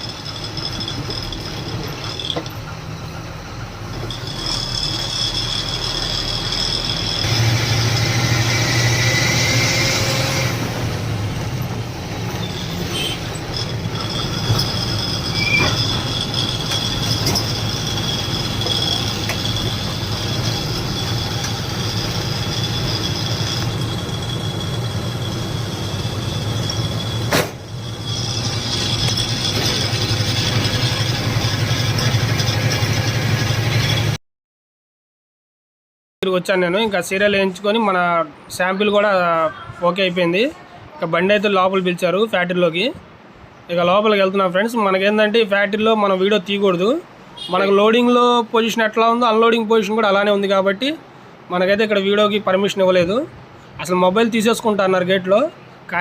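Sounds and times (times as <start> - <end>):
truck engine and road noise: 0.0 - 34.2, 36.7 - 56.0.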